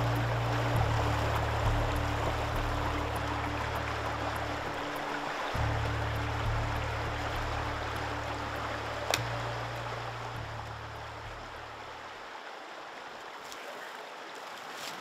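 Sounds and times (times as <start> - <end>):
low music drone: 0.0 - 12.3
flowing stream rushing: 0.0 - 15.0.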